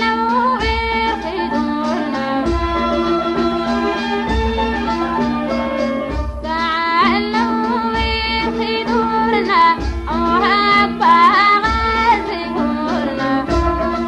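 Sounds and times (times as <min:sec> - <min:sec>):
instrumental accompaniment: 0:00.0 - 0:14.0
woman singing ornamented melody: 0:00.0 - 0:14.0.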